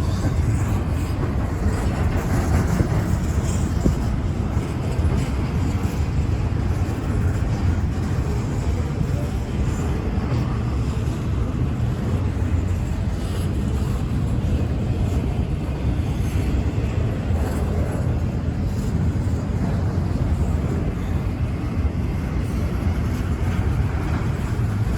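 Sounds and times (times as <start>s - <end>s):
freight train rumbling past: 0.0s - 24.9s.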